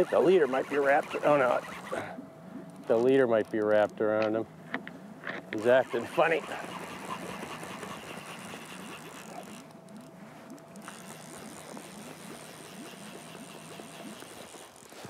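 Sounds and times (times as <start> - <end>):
fly reel whirring: 0.0 - 3.9, 5.6 - 15.0
steady low hum: 0.0 - 15.0.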